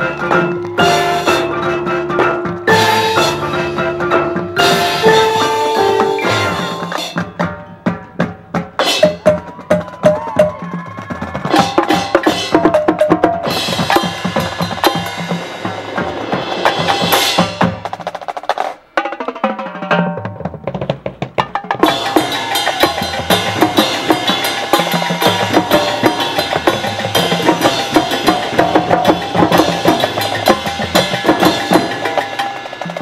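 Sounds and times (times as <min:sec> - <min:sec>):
drums and mallet strikes: 0:00.0 - 0:33.0
marching band playing: 0:00.0 - 0:33.0.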